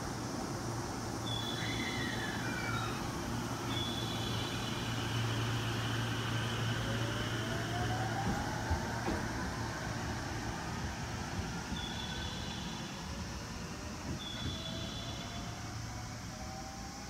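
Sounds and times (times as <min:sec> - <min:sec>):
electric train accelerating: 0:00.0 - 0:17.0.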